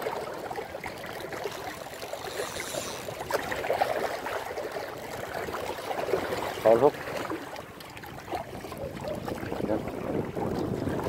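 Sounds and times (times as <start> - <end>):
sea water lapping against shore: 0.0 - 11.0.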